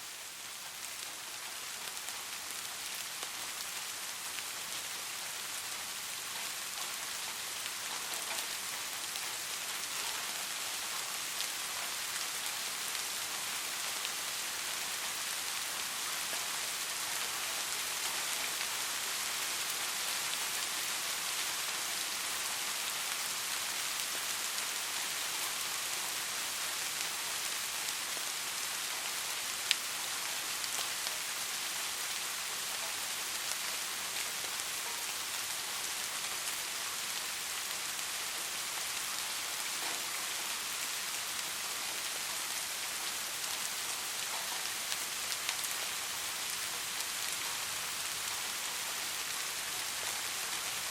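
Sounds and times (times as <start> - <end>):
soft rain falling: 0.0 - 50.9.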